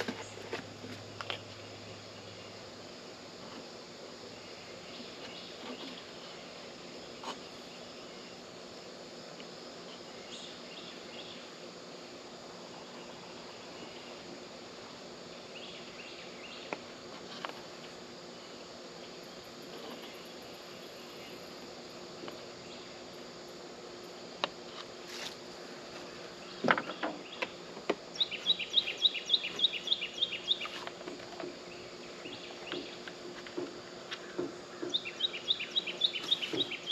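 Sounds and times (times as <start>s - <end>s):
insects chirping: 0.0s - 36.9s.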